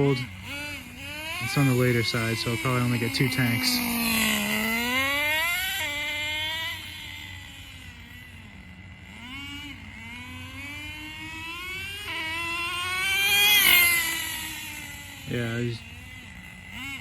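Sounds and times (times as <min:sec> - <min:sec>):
rc car engine revving: 0:00.0 - 0:17.0.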